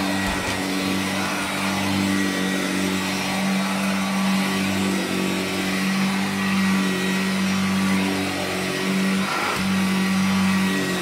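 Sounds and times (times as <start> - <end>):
vacuum cleaner motor hum: 0.0 - 11.0.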